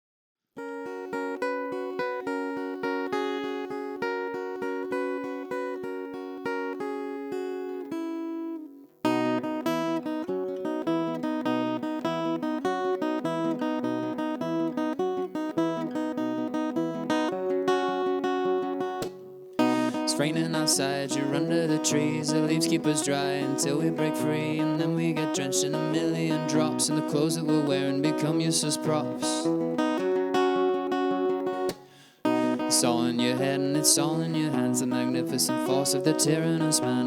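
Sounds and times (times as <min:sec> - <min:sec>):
acoustic guitar playing: 0:00.6 - 0:37.0.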